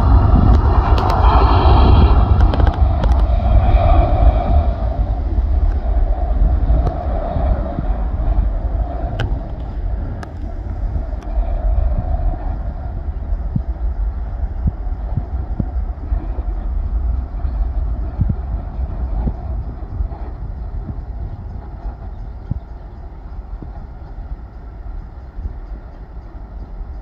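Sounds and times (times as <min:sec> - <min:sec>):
jet engines rumbling at takeoff: 0:00.0 - 0:27.0.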